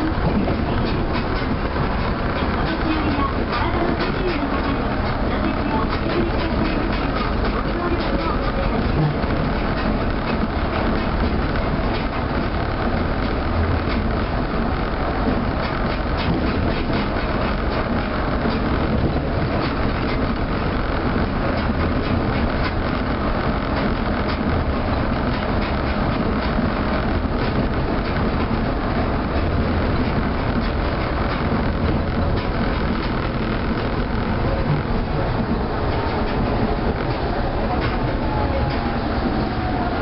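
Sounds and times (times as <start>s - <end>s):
train running rumble with rattle: 0.0s - 40.0s.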